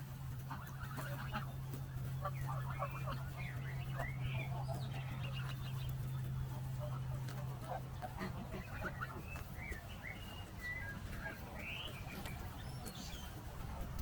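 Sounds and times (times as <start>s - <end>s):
birds chirping and whistling: 0.0s - 14.0s
low steady rumble: 0.0s - 14.0s.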